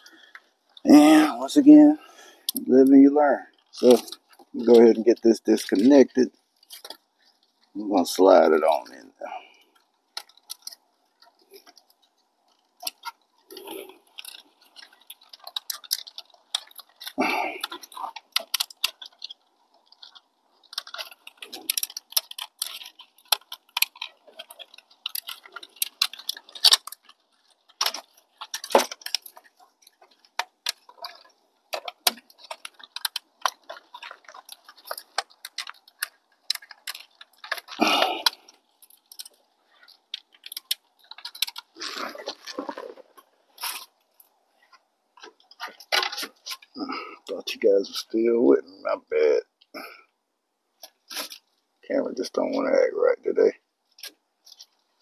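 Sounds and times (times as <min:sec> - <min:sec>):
car part clicking and rattling: 0:03.5 - 0:46.8, 0:50.7 - 0:51.8, 0:53.6 - 0:55.0.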